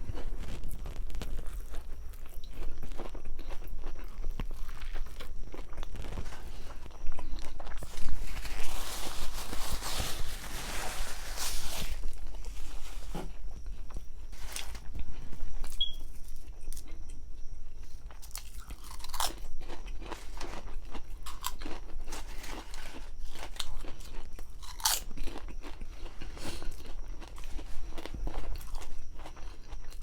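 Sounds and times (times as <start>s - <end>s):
person crunching a sandwich: 0.0s - 17.2s, 17.8s - 30.0s.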